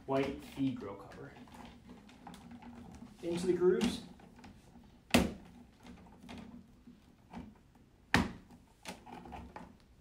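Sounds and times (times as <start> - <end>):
plastic parts knocking and tapping: 0.1 - 10.0.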